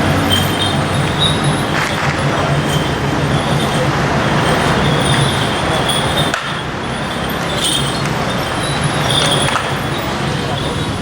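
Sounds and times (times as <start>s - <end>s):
loud street noise: 0.0s - 11.0s
vehicle engine humming: 0.0s - 11.0s.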